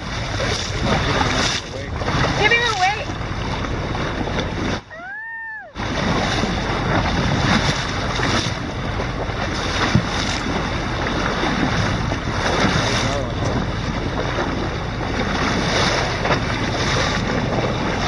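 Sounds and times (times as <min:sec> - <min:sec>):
sea water rushing along hull: 0:00.0 - 0:18.0
wind buffeting microphone: 0:00.0 - 0:18.0.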